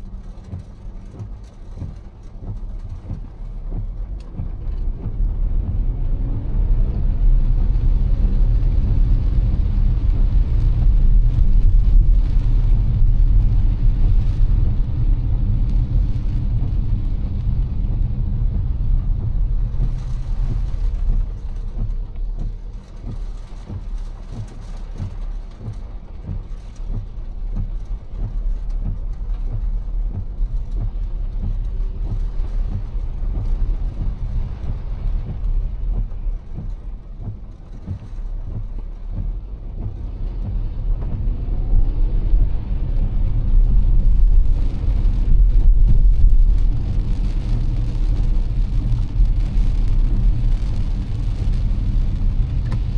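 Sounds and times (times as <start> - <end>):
car driving on wet road: 0.0 - 52.9
rain patter: 0.0 - 52.9.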